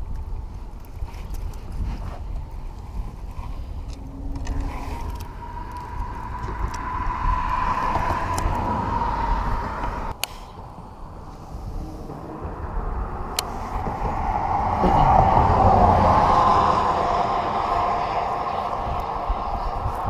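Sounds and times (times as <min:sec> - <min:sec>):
wind rumble on microphone: 0:00.0 - 0:20.0
passing motor vehicle whine: 0:03.8 - 0:20.0.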